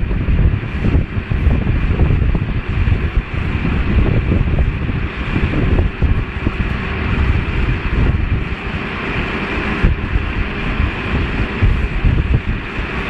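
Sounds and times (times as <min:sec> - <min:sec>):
heavy machine engine running: 0:00.0 - 0:13.0
wind buffeting microphone: 0:00.0 - 0:13.0.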